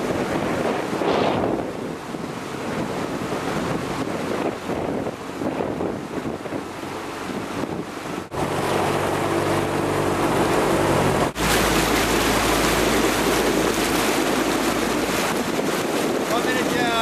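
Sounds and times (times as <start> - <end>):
motorboat engine humming: 0.0 - 17.0
rushing water: 0.0 - 17.0
wind buffeting microphone: 0.0 - 17.0.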